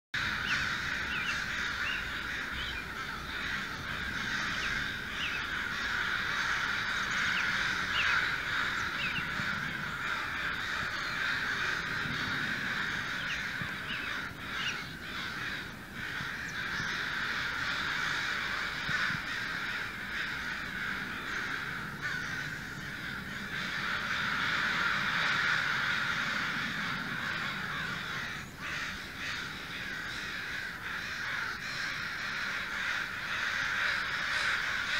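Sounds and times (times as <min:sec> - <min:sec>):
crows cawing: 0:00.2 - 0:34.9.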